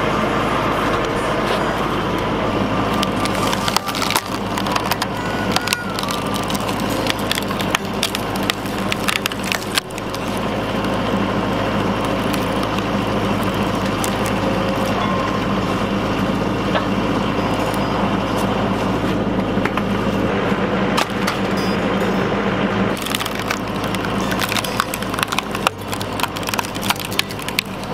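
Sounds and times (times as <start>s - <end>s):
diesel tractor engine running: 0.0s - 27.9s
wood cracking and splintering: 2.6s - 20.2s, 22.9s - 27.9s.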